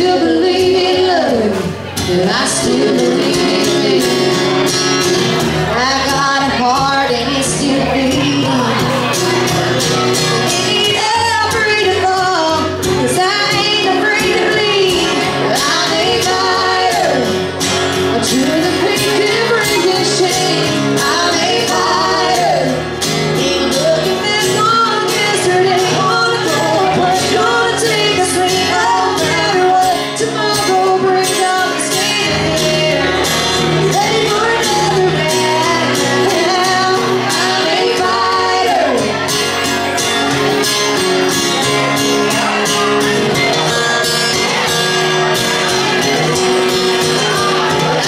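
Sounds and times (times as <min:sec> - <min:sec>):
band playing song: 0:00.0 - 0:48.0
person singing: 0:00.0 - 0:48.0.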